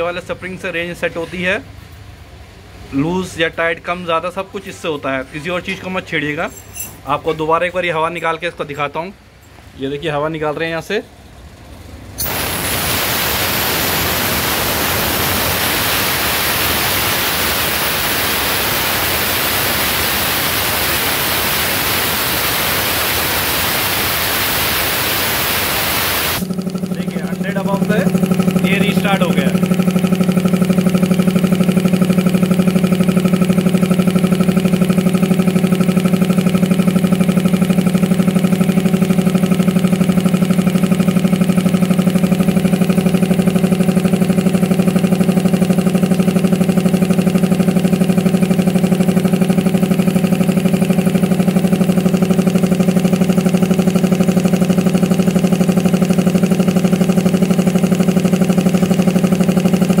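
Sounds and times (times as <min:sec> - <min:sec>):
air compressor running: 0:11.2 - 1:00.0.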